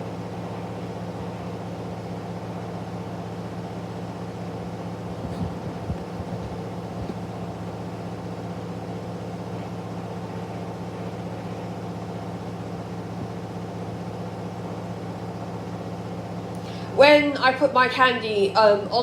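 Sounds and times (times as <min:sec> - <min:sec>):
washing machine spinning: 0:00.0 - 0:17.3.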